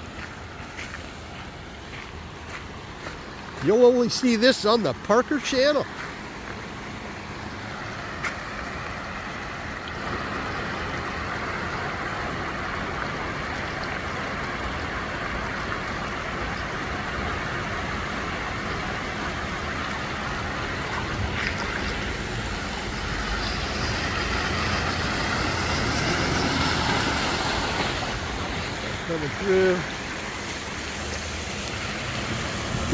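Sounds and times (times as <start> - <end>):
car engine rumble: 0.0 - 32.9
tyres spraying water: 0.0 - 32.9.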